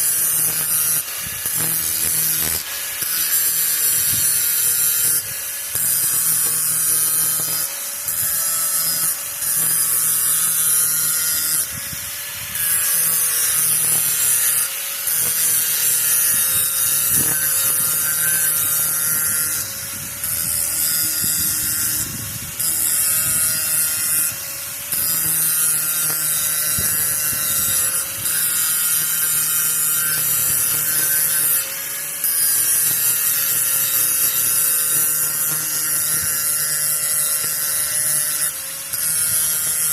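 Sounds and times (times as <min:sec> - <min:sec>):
grinder motor whine: 0:00.0 - 0:39.9
hiss of grinding metal: 0:00.0 - 0:39.9.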